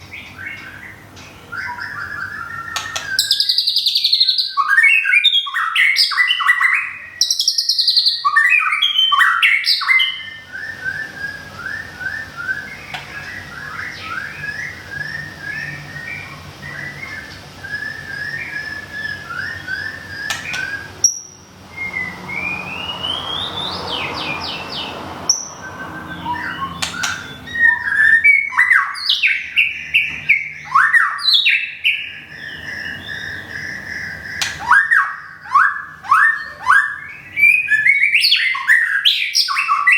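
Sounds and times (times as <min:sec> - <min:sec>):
bird singing whistled phrases: 0:00.1 - 0:24.1, 0:25.3 - 0:39.9.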